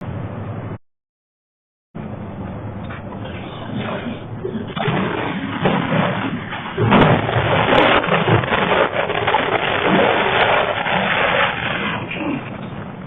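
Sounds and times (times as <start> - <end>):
truck rumbling and rattling: 2.0 - 13.0.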